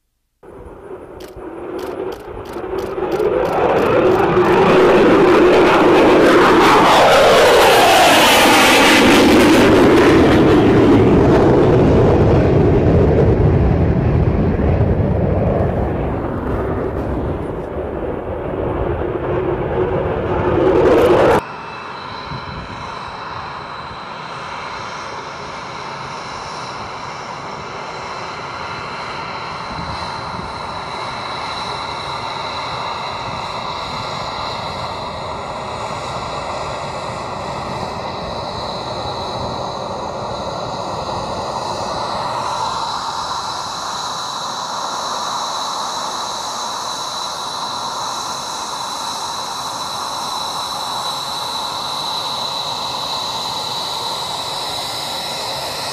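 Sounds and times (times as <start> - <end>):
jet engines roaring: 0.4 - 55.9
jet engines whining while taxiing: 0.4 - 55.9.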